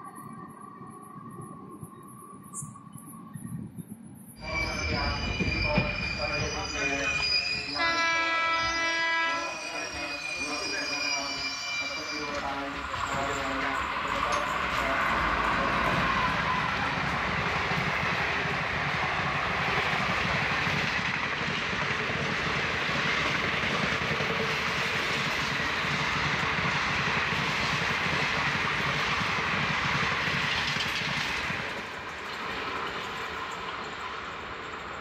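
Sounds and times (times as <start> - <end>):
train wheels rumbling on rails: 4.4 - 35.0.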